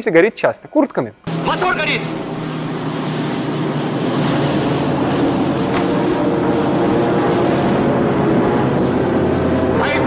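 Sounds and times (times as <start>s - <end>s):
propeller aircraft engines droning: 1.2s - 10.0s.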